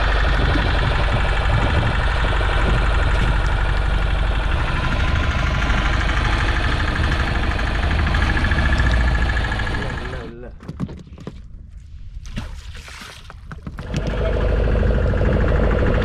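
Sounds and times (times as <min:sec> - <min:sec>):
small boat engine running: 0:00.0 - 0:10.4, 0:13.5 - 0:16.0.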